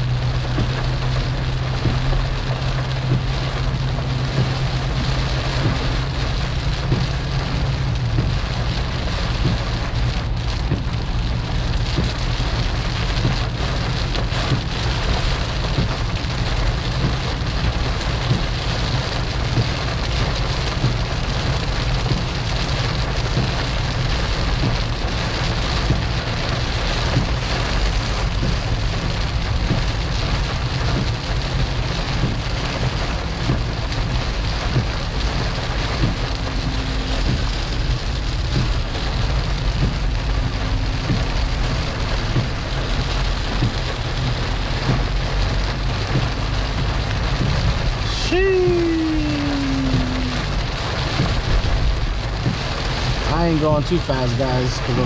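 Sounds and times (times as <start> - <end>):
car engine rumble: 0.0 - 55.0
heavy rain on a car: 0.0 - 55.0
road noise: 0.0 - 55.0.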